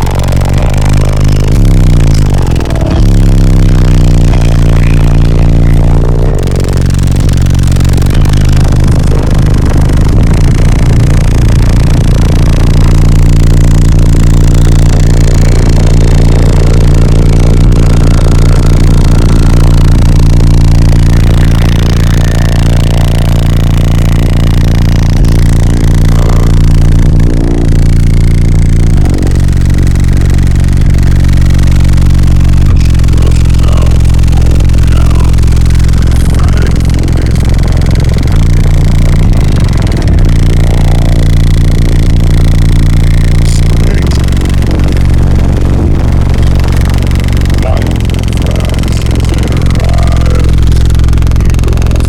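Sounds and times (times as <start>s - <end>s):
deep bass music from subwoofers: 0.0s - 52.0s.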